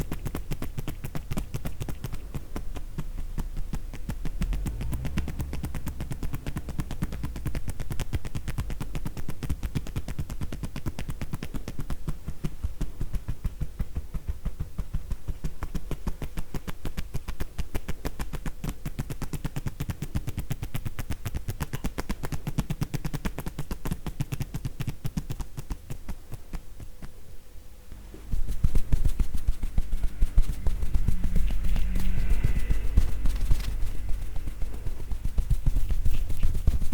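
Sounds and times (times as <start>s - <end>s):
hands patting a body: 0.0s - 27.2s, 28.0s - 36.9s.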